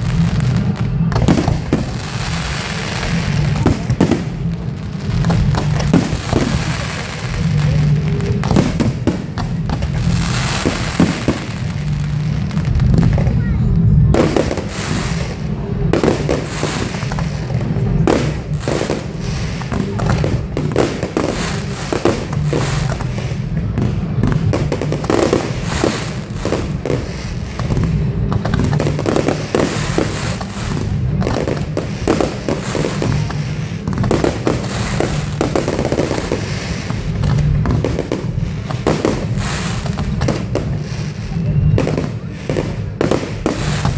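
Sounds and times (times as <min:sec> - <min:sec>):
fireworks bangs and crackles: 0:00.0 - 0:43.9
low rumble: 0:00.0 - 0:43.9.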